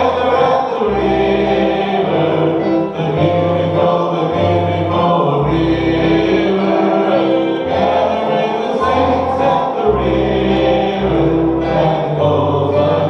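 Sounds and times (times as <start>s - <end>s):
bass notes: 0.0s - 13.0s
congregation singing a hymn: 0.0s - 13.0s
worship band playing: 0.0s - 13.0s.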